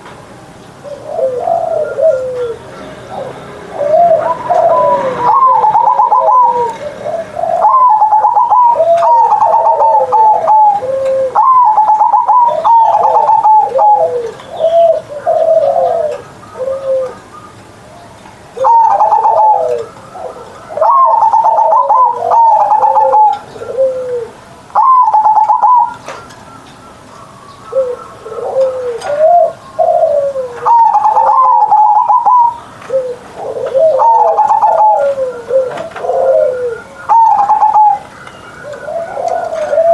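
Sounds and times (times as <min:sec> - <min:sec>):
dove stuttering coos: 0:00.8 - 0:17.3, 0:18.6 - 0:26.2, 0:27.7 - 0:39.9.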